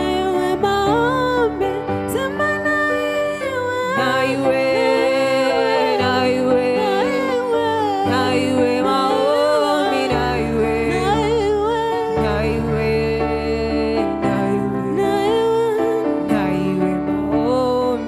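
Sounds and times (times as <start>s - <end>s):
person singing: 0.0s - 18.0s.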